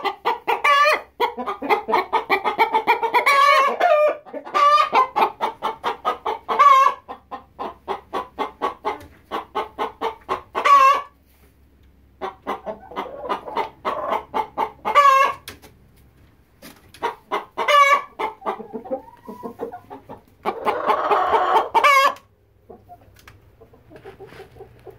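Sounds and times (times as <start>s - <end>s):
hens clucking and squawking: 0.0s - 24.9s.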